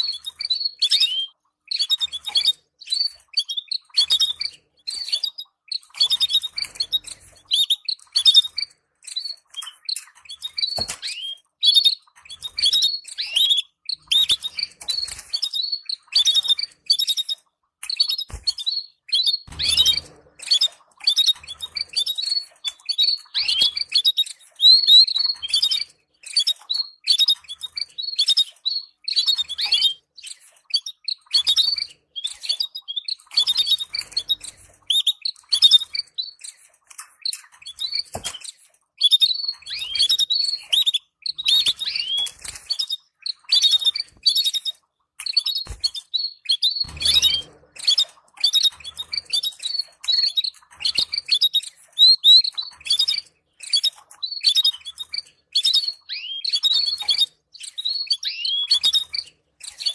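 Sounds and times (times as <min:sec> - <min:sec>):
canaries chattering: 0:00.0 - 0:38.4, 0:39.0 - 0:59.9.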